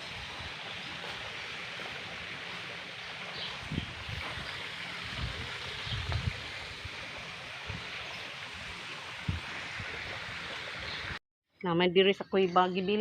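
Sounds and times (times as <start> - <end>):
flowing water rushing: 0.0 - 11.2.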